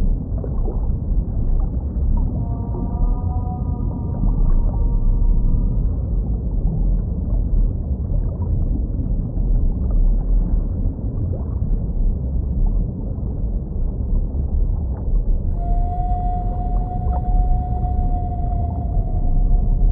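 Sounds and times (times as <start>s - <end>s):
faint water gurgling: 0.0s - 19.9s
underwater low rumble: 0.0s - 19.9s.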